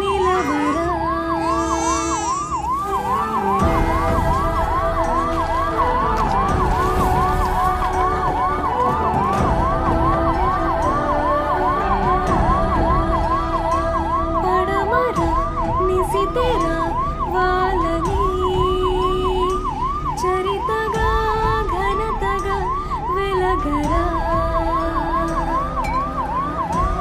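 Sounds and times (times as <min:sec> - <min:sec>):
ambulance siren yelping: 0:00.0 - 0:27.0
low rumble: 0:02.9 - 0:27.0.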